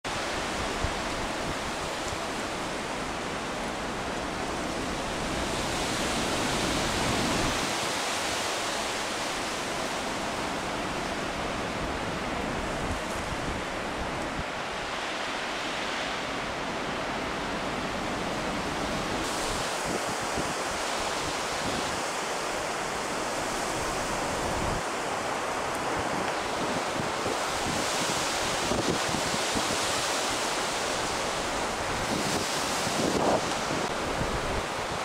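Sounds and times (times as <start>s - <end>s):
heavy surf: 0.0s - 35.0s
strong wind: 0.0s - 35.0s
wind buffeting microphone: 0.1s - 35.0s.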